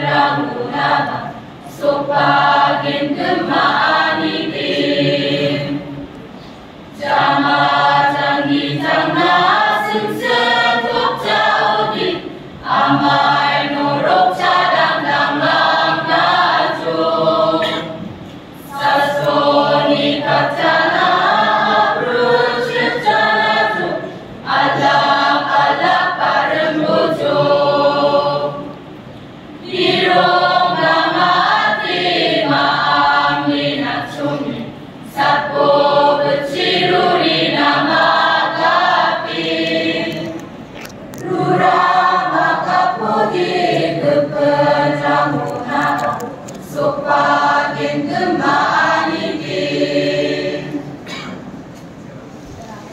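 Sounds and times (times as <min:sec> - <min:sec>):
choir singing: 0:00.0 - 0:06.1, 0:06.9 - 0:29.0, 0:29.6 - 0:40.6, 0:41.2 - 0:51.2.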